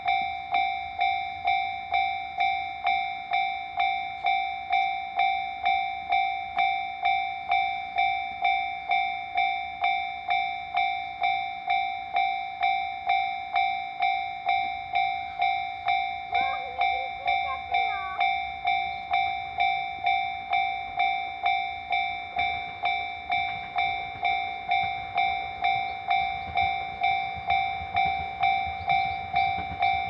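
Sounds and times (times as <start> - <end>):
railroad crossing bell ringing: 0.0 - 30.0.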